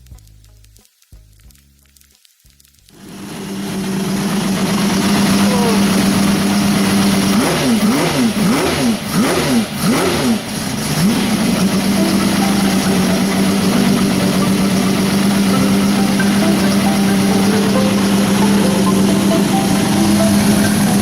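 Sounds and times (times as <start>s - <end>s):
engine idling and revving: 2.9s - 21.0s.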